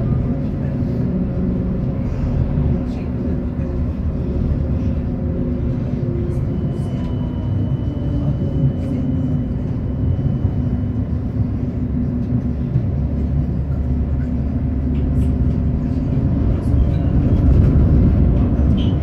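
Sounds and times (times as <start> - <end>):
tram wheels and motors rumbling: 0.0 - 19.0.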